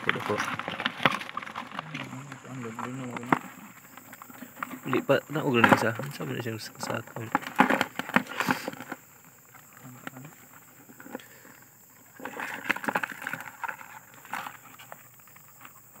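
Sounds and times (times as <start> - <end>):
crabs splashing in plastic tub: 0.0 - 16.0.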